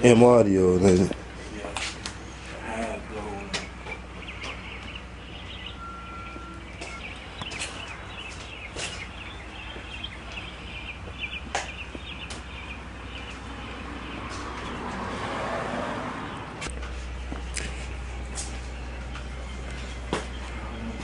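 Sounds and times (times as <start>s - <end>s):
small birds chirping: 1.1s - 15.3s, 16.2s - 21.0s.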